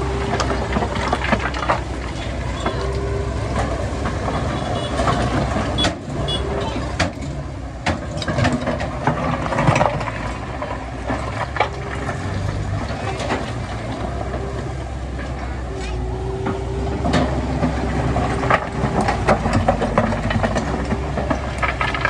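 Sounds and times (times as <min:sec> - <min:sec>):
metallic clanks and knocks: 0:00.0 - 0:15.6, 0:16.4 - 0:22.0
diesel engine running: 0:00.0 - 0:22.0.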